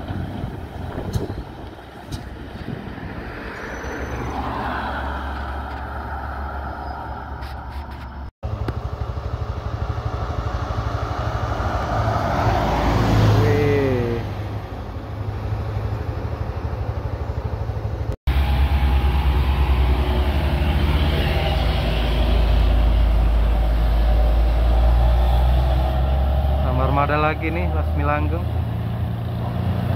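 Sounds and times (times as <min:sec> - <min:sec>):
highway traffic passing: 0:00.0 - 0:29.9.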